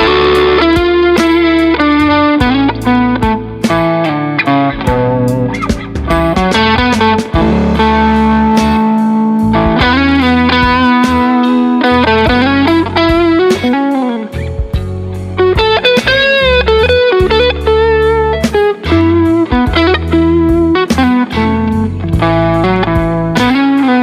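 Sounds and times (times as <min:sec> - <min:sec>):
backing track drum beat: 0:00.0 - 0:04.0, 0:04.7 - 0:24.0
electric guitar lead line: 0:00.0 - 0:24.0.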